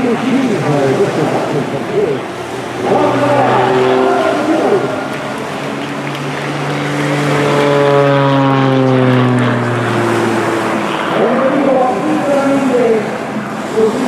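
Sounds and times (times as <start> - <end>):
propeller plane passing: 0.0 - 14.0.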